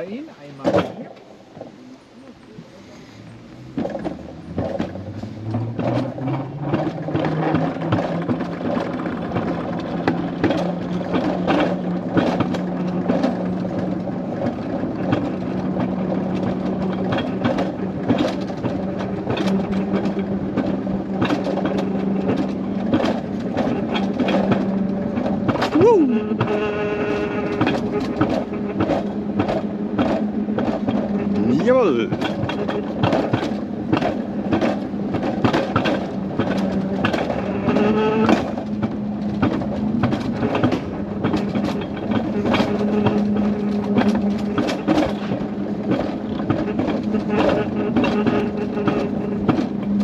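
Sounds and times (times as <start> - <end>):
coaster sled wheel hum: 0.0 - 50.0
track clicks and rattles: 3.3 - 50.0.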